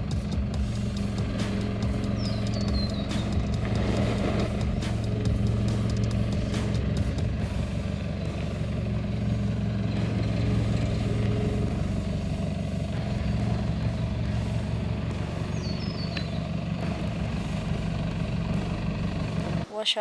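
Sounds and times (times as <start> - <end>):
car engine running: 0.0 - 19.7.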